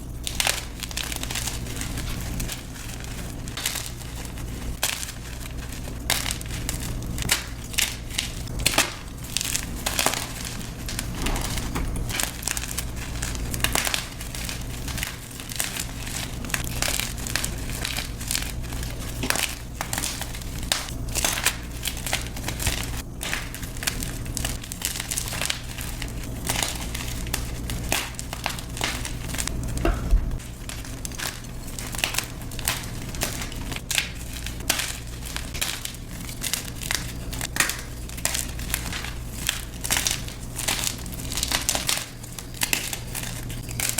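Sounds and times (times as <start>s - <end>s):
chalk being crushed: 0.0s - 43.9s.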